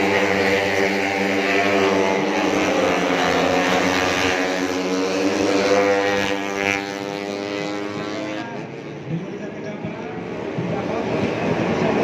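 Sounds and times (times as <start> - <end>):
motorcycles at high revs: 0.0 - 12.0.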